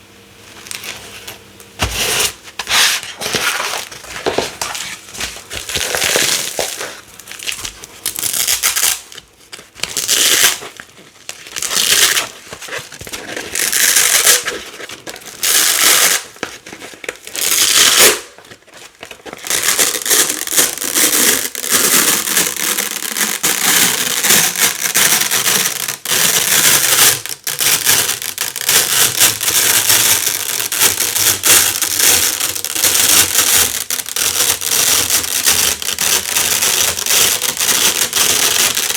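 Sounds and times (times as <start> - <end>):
hook-and-loop tearing: 3.7 - 38.9.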